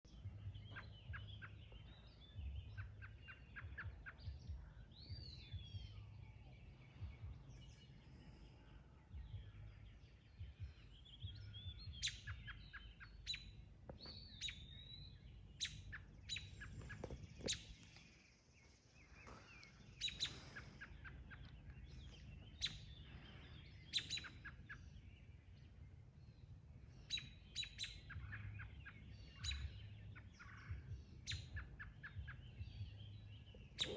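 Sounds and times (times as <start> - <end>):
faint low steady rumble: 0.0 - 33.9
songbirds calling and singing: 0.0 - 33.9.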